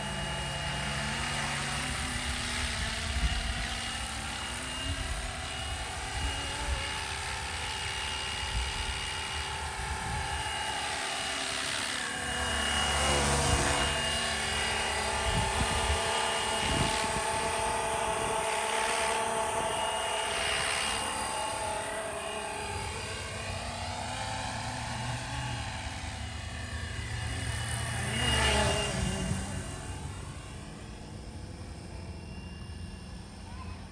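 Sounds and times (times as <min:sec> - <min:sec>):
rc helicopter motor whine: 0:00.0 - 0:33.9.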